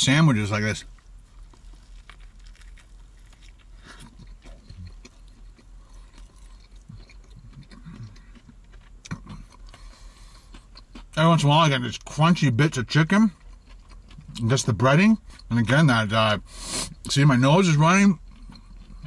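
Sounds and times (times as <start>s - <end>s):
crunching breading: 0.1s - 19.0s
man chewing crunchy food: 0.8s - 17.2s, 17.8s - 19.0s.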